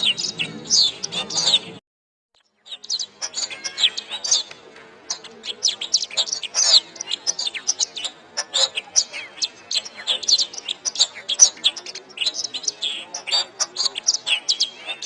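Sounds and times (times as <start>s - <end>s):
canary singing: 0.0s - 1.8s, 2.4s - 15.0s.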